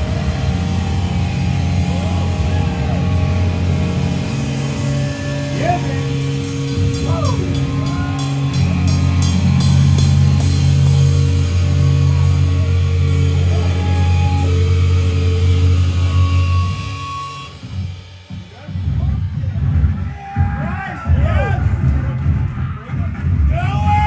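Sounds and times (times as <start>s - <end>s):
heavy rock band playing: 0.0s - 24.0s.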